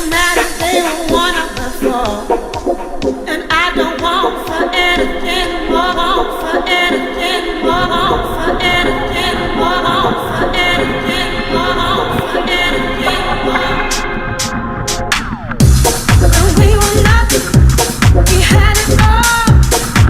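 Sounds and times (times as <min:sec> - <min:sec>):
bass line and beat: 0:00.0 - 0:05.1, 0:07.8 - 0:20.0
layered sung vocals: 0:00.0 - 0:20.0.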